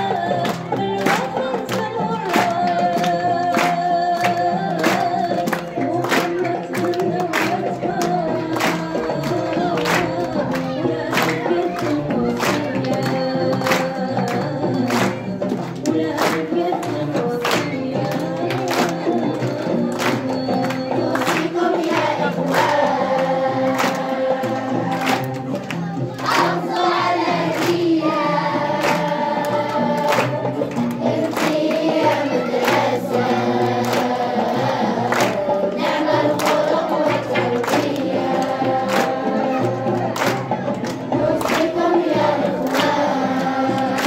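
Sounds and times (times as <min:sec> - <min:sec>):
chorus of voices singing: 0:00.0 - 0:44.0
steady percussion beat: 0:00.0 - 0:44.0.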